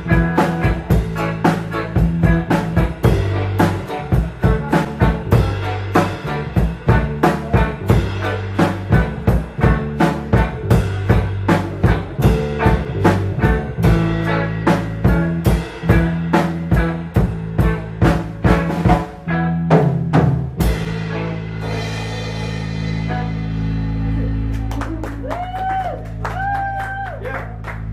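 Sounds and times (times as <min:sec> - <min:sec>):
bass guitar: 0:00.0 - 0:27.9
drum kit steady beat: 0:00.0 - 0:27.9
electric guitar: 0:00.0 - 0:27.9.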